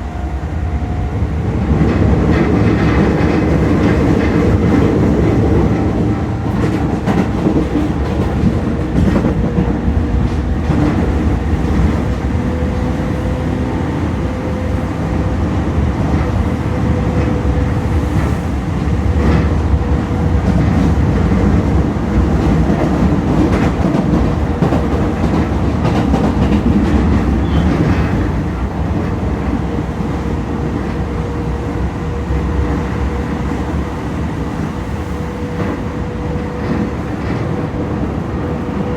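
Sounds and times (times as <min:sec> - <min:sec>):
train wheel rumble: 0:00.0 - 0:38.9.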